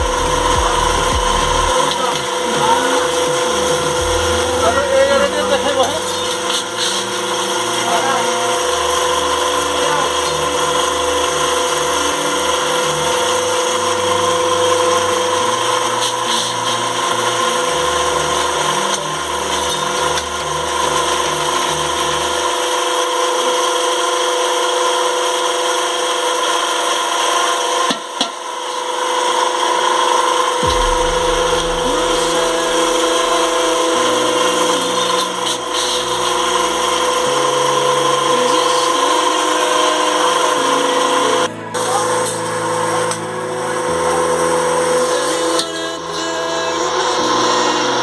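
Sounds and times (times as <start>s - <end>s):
deep uneven drone: 0.0s - 22.8s, 30.6s - 48.0s
steady mechanical hum: 0.0s - 48.0s.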